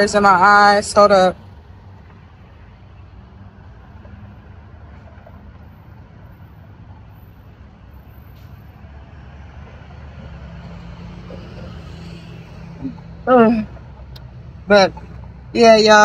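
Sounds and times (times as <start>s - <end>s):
traffic engines rumbling: 0.0s - 16.0s.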